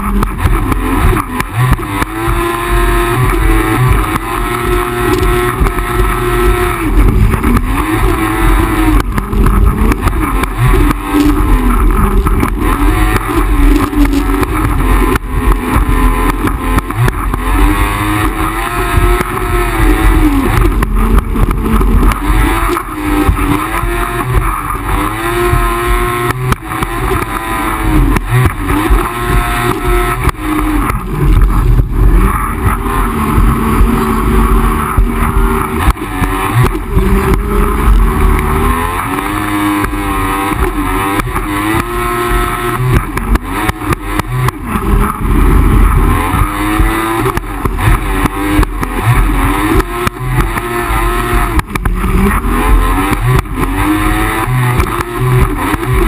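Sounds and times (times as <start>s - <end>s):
jet ski engine running: 0.0s - 56.0s.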